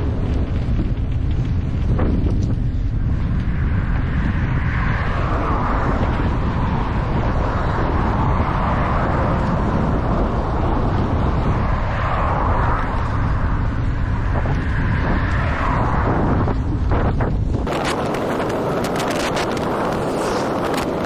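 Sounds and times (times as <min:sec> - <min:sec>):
wind rumble on microphone: 0:00.0 - 0:21.0
traffic running by: 0:02.6 - 0:21.0.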